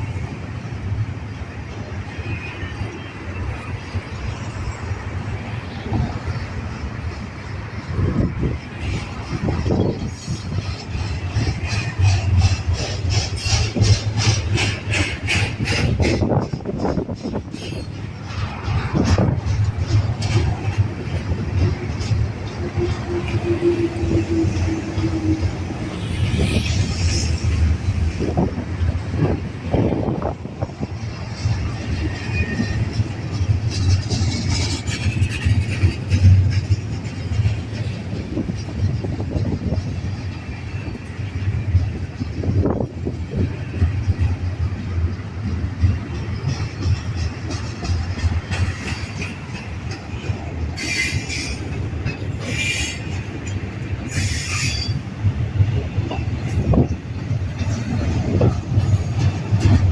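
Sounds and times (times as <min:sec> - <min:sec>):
train wheels rumbling on rails: 0:00.0 - 0:59.9
train screeching and hissing: 0:01.7 - 0:59.9.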